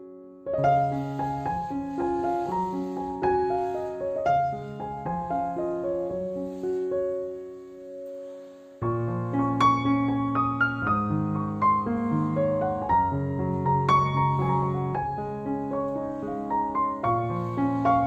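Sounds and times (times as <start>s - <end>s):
soft slow piano music: 0.0s - 18.0s.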